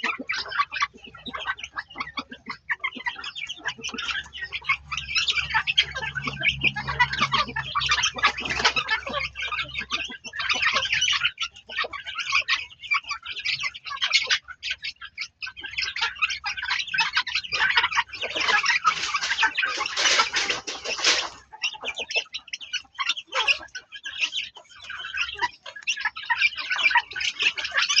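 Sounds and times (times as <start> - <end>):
fowl chirping and clucking: 0.0 - 28.0.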